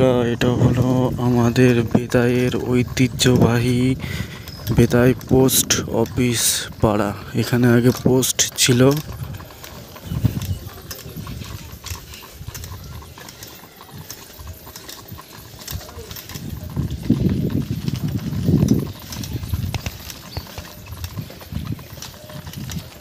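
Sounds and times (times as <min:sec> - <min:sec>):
bicycle rattling and clicking: 0:00.0 - 0:23.0.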